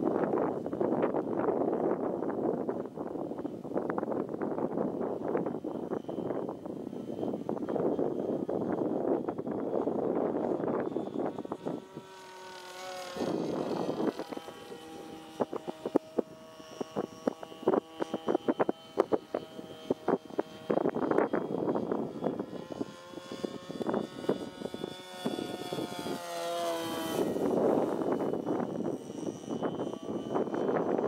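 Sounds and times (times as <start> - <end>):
model plane engine: 0.0 - 31.0.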